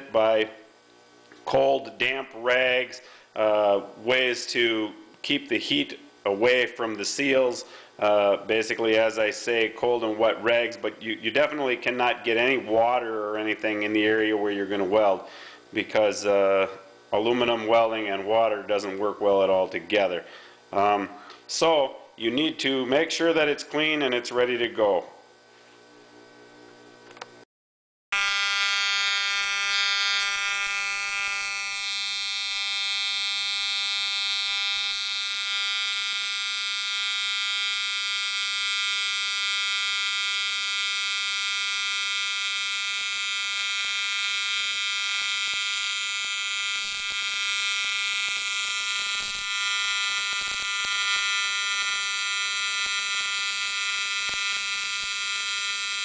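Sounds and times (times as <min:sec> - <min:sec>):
welding arc buzzing: 0:00.0 - 0:27.4, 0:28.1 - 0:56.0.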